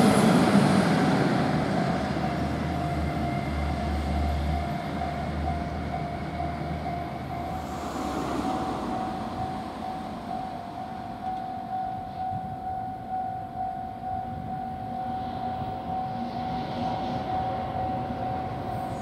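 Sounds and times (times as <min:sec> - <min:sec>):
train rumbling on rails: 0:00.0 - 0:19.0
level crossing warning bell: 0:01.4 - 0:19.0.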